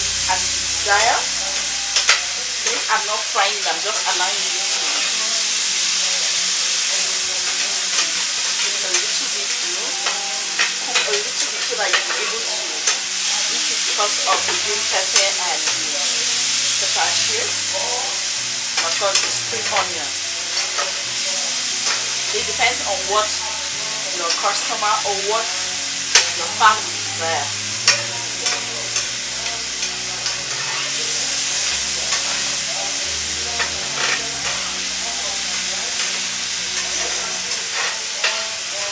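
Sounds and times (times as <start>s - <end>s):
fork scraping a pan: 0.0s - 3.0s, 7.4s - 38.9s
vegetables sizzling in a frying pan: 0.0s - 38.9s.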